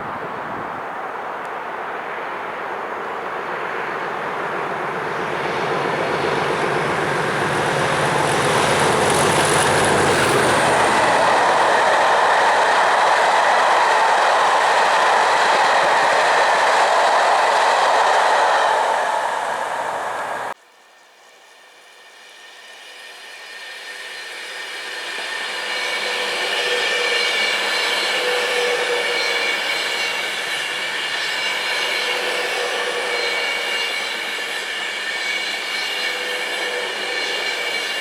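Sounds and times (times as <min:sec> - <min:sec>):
train passing at speed: 0:00.0 - 0:38.0.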